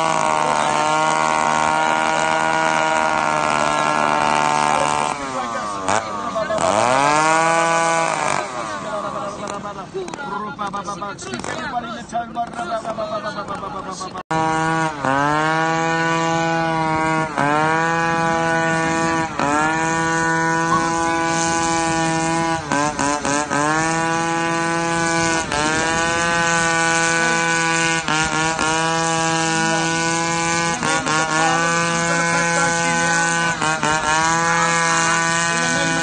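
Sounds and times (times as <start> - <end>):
motorboat engine droning: 0.0 - 36.0.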